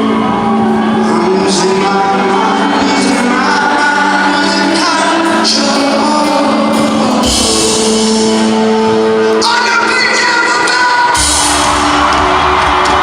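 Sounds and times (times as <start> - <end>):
live rock band: 0.0 - 13.0
man singing lead vocals: 0.1 - 12.0.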